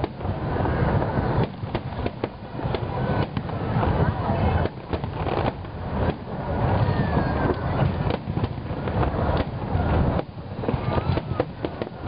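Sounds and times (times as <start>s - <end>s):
fireworks bursting: 0.0s - 12.0s
fireworks cracks: 0.0s - 12.0s.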